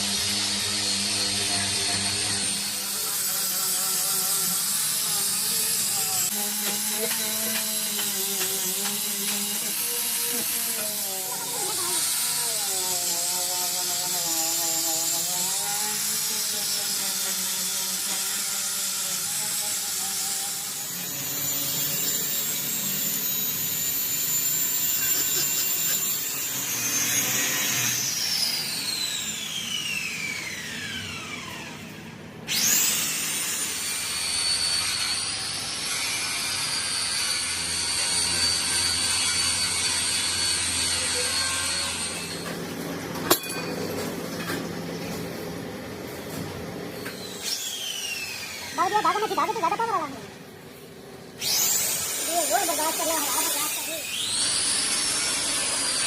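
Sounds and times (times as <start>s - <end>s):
power tool grinding: 0.0s - 56.0s.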